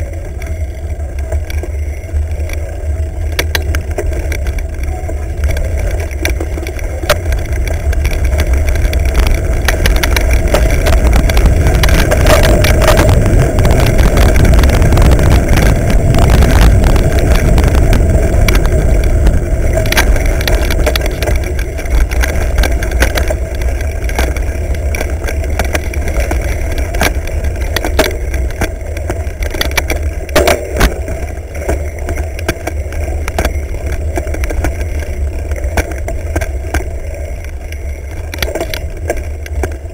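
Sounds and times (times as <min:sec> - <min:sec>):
bike knocks and rattles: 0:00.0 - 0:39.9
road noise: 0:00.0 - 0:39.9
wind rumble on microphone: 0:00.0 - 0:39.9.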